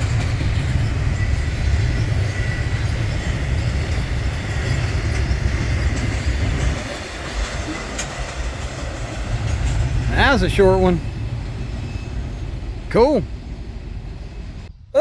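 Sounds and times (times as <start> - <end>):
train wheels rumbling on track: 0.0 - 14.8.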